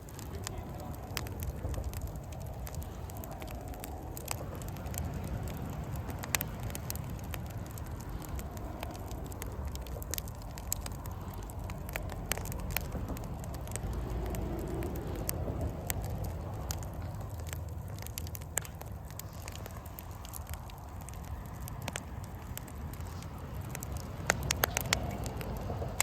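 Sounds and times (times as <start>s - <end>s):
campfire crackling: 0.0s - 26.0s
fire popping: 0.0s - 26.0s
steady low rumble: 0.0s - 26.0s.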